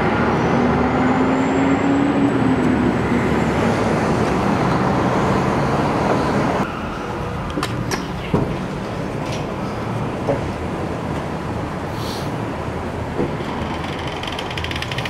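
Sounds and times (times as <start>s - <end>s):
passing cars: 0.0s - 13.6s.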